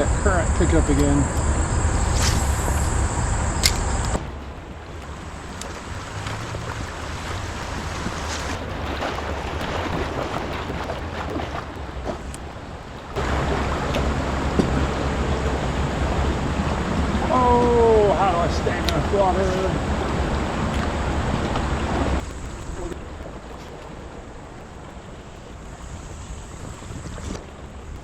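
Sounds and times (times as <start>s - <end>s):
heavy low rumble: 0.0s - 28.0s
river water rushing and splashing: 0.0s - 28.0s
wind buffeting microphone: 0.0s - 28.0s.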